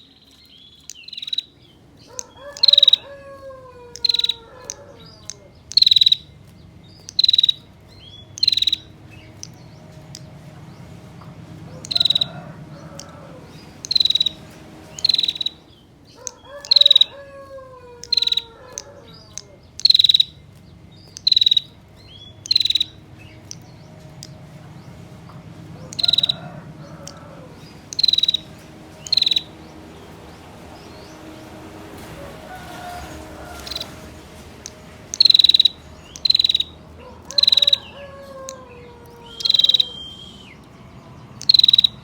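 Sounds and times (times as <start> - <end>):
bird giving dry rapid trills: 0.0 - 42.0
lower bird call with falling tones: 0.0 - 42.0.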